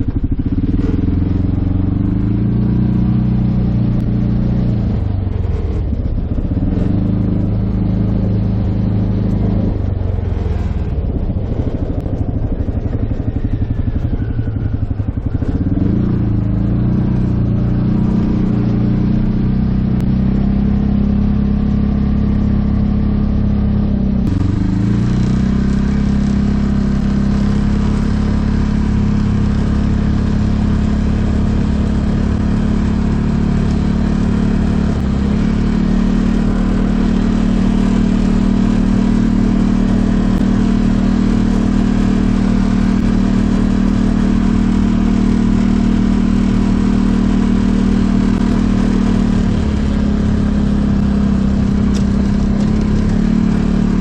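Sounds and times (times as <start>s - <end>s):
single-cylinder engine revving: 0.0s - 54.0s.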